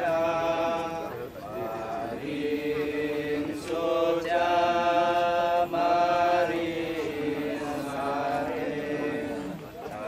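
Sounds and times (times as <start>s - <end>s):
group chanting in held notes: 0.0s - 10.0s.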